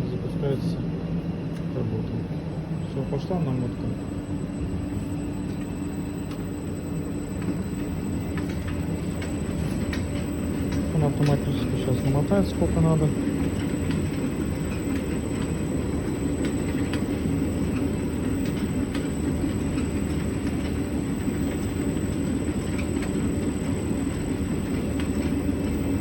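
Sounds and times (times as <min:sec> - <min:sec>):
winding machine motor humming: 0:02.4 - 0:26.0.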